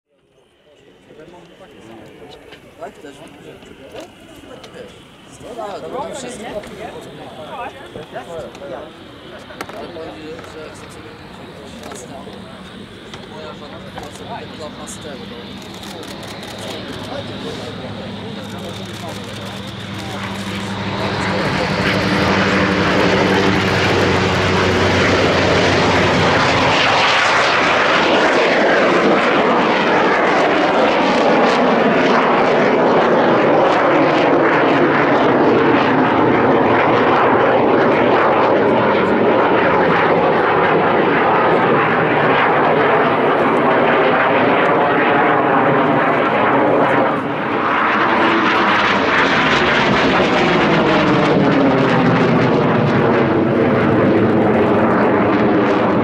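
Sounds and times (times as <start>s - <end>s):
jet engines roaring overhead: 0.1s - 56.0s.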